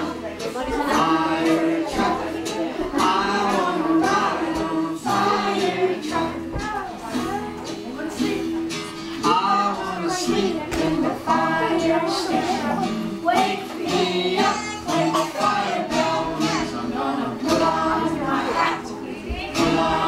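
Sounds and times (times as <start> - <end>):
woman and children singing: 0.0 - 20.0.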